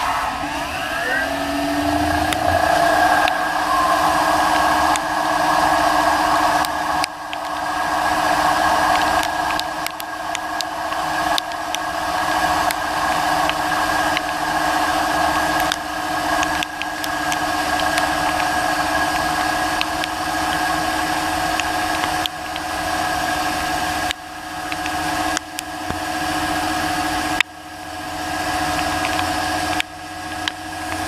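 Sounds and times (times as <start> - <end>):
lathe machine whine: 0.0 - 31.0.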